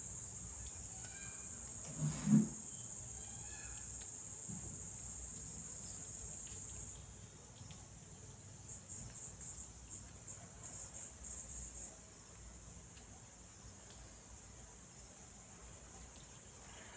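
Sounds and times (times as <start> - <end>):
insects trilling: 0.0 - 16.9.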